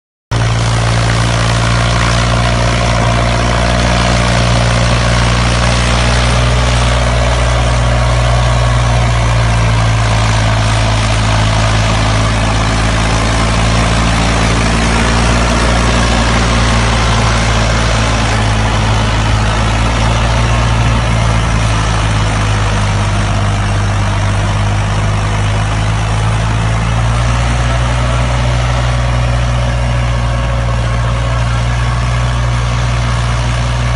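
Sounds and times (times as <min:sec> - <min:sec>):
tractor diesel engine running: 0:00.3 - 0:33.9.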